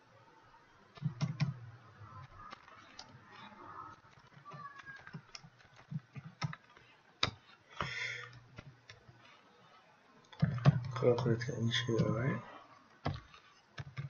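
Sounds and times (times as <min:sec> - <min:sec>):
keyboard typing: 0:01.0 - 0:11.2, 0:13.0 - 0:14.0.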